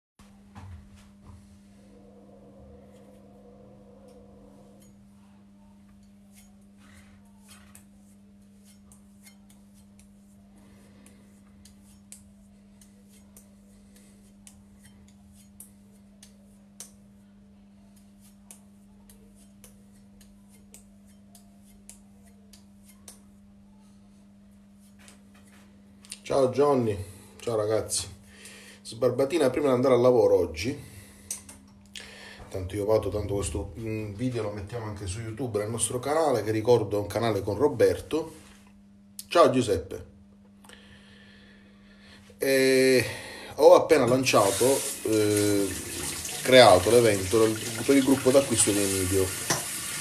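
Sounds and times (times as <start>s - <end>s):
steady low hum: 0.2s - 47.6s.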